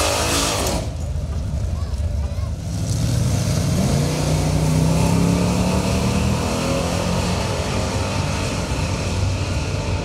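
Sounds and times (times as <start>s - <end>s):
engines accelerating hard: 0.0s - 1.5s, 2.5s - 10.0s.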